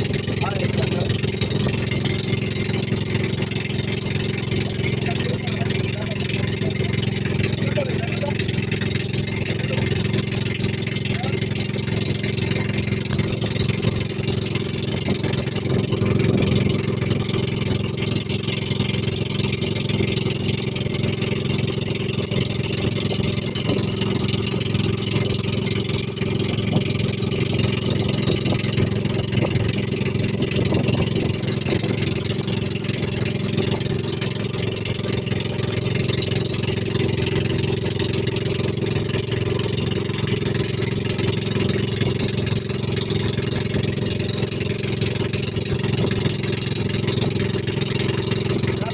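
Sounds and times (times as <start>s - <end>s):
boat engine droning: 0.0s - 48.9s.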